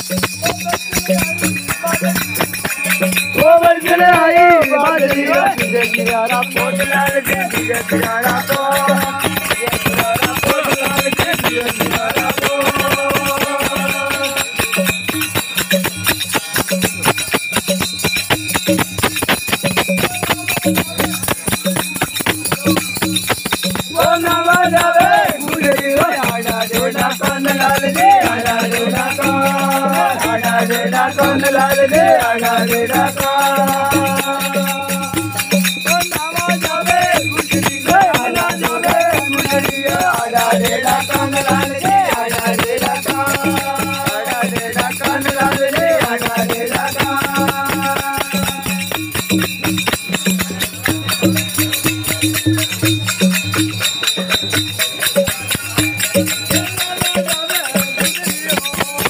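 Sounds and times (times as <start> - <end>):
rattling and jingling percussion: 0.0 - 59.0
wavering melody: 0.0 - 59.0.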